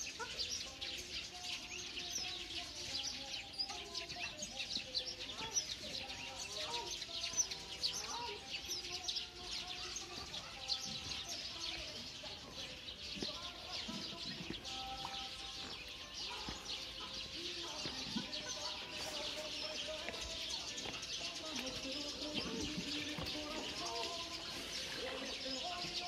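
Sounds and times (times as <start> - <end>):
chorus of birds chirping: 0.0 - 26.0.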